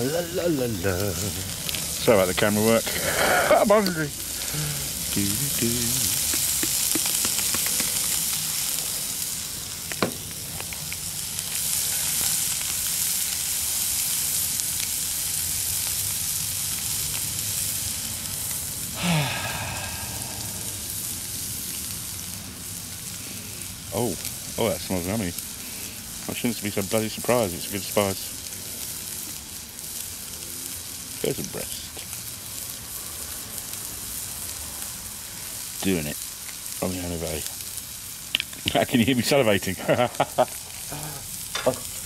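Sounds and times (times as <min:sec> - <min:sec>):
meat sizzling in a skillet: 0:00.0 - 0:42.0.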